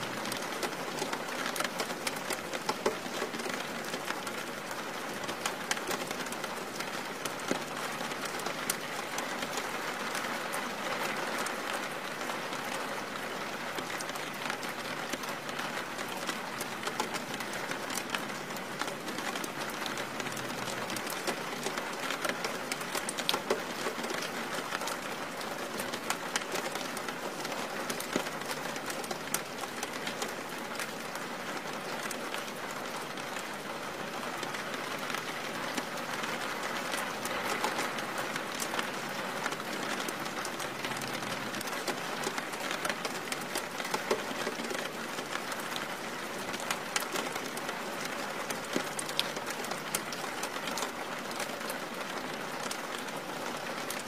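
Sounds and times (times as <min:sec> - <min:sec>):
raindrops ticking close by: 0:00.0 - 0:54.0
steady rain: 0:00.0 - 0:54.0.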